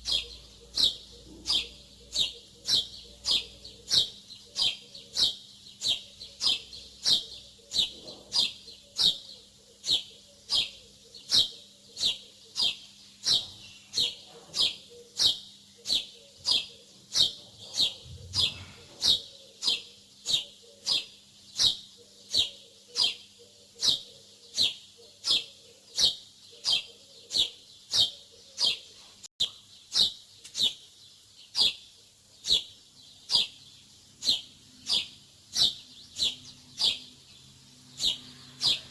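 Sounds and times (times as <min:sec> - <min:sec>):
small songbird chirping: 0:00.0 - 0:38.9.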